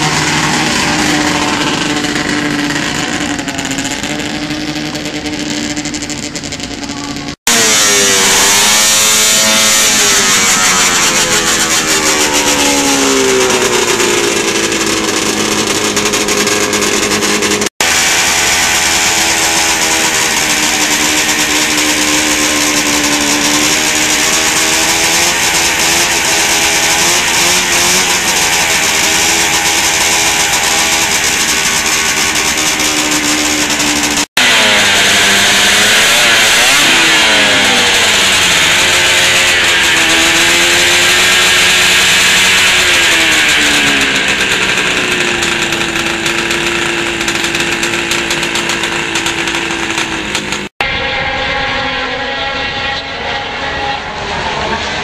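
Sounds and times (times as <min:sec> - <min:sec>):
snowmobile engine at high revs: 0:00.0 - 0:55.0
snowmobile engines revving: 0:00.0 - 0:55.0.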